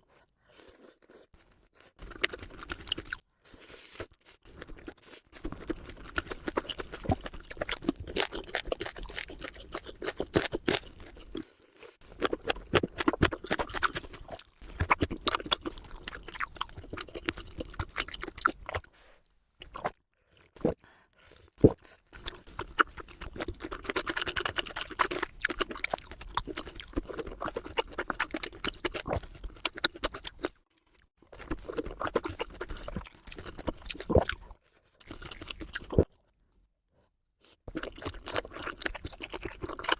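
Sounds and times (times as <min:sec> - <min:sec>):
crunchy bites and chewing: 0:00.6 - 0:03.2, 0:03.8 - 0:18.9, 0:21.4 - 0:36.2, 0:37.7 - 0:39.9.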